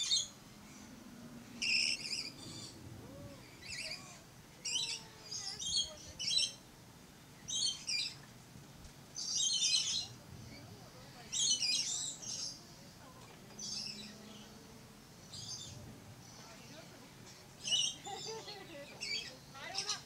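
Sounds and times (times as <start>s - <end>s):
lorikeets calling: 0.0s - 6.7s, 7.4s - 8.2s, 9.2s - 20.0s.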